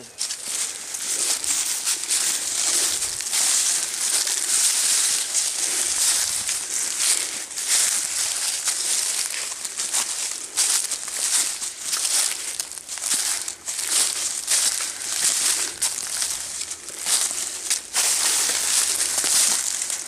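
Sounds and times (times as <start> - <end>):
footsteps crunching dry leaves: 0.0 - 20.0.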